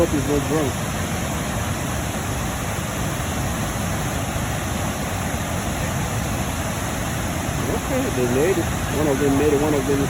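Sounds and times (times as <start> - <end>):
waterfall pouring into pool: 0.0 - 10.0.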